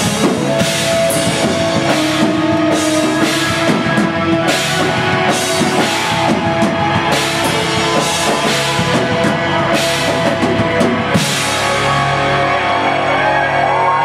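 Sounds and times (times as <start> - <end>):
cymbal crashes: 0.0 - 12.8
rock band playing: 0.0 - 14.0.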